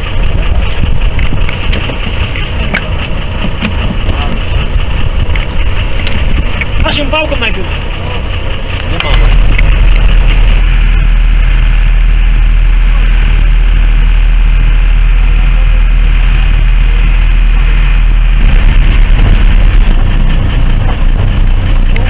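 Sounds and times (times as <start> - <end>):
wind noise on microphone: 0.0 - 7.5, 8.8 - 22.0
boat engine rumbling: 0.0 - 22.0.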